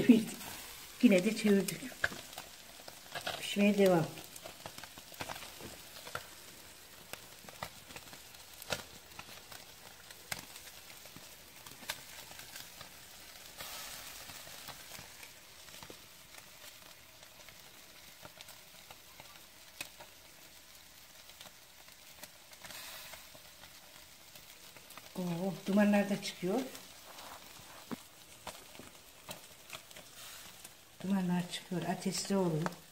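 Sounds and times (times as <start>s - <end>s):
embers crackling and popping: 0.0s - 32.9s
fish sizzling on a grill: 0.0s - 32.9s.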